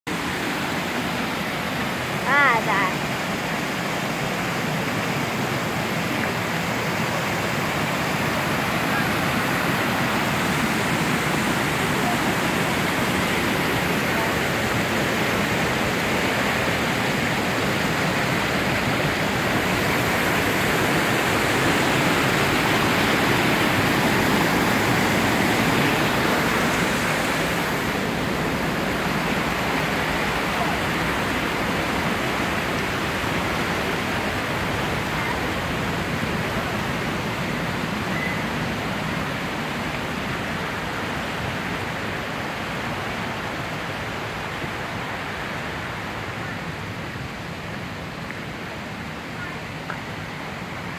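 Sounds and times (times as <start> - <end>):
waterfall rushing: 0.1 - 50.9.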